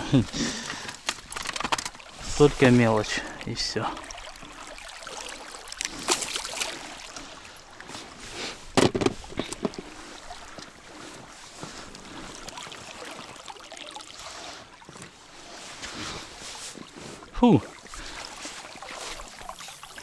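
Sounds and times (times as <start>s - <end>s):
water lapping around boat: 0.0s - 20.0s.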